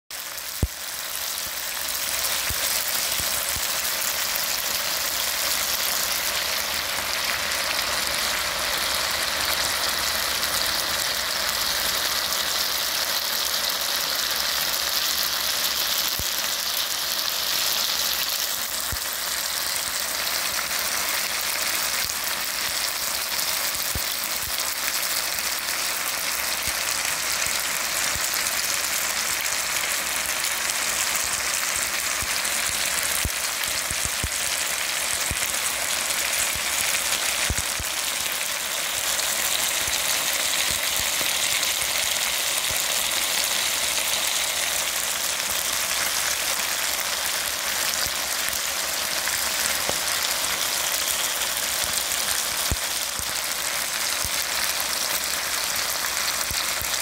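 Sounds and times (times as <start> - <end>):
food sizzling in frying pan: 0.1 - 57.0.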